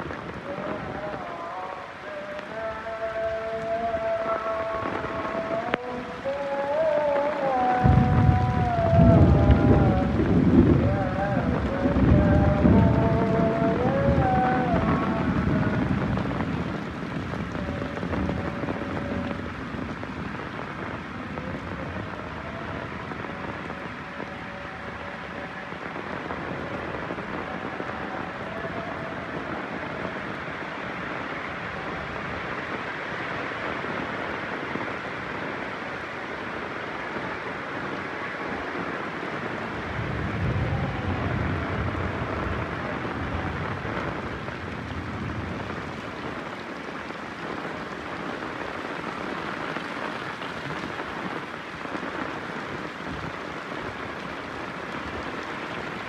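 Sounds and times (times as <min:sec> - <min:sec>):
heavy rain falling: 0:00.0 - 0:56.0
thunder rumbling: 0:02.6 - 0:56.0.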